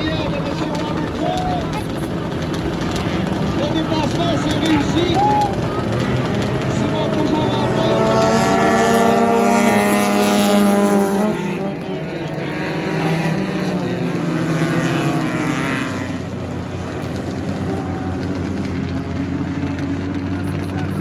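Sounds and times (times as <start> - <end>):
race car engine passing: 0.0 - 21.0.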